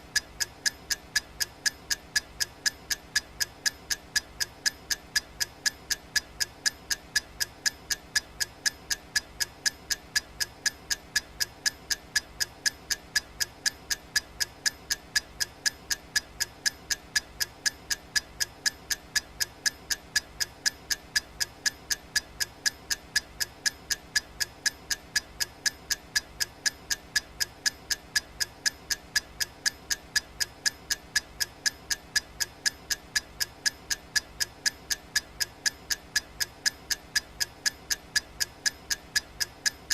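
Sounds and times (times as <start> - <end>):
clock ticking: 0.1 - 39.9.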